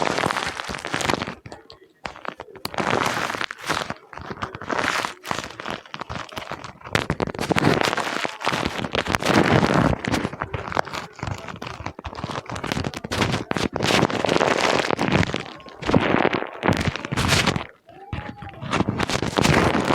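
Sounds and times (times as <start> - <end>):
paper being crumpled: 0.0 - 19.9.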